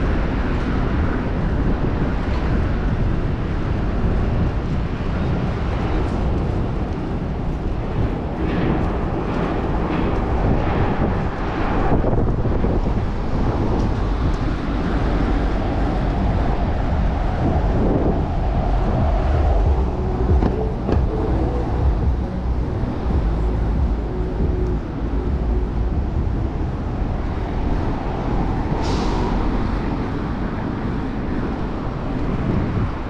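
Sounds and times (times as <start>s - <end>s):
city traffic: 0.0s - 33.0s
wind rushing over microphone: 0.0s - 33.0s.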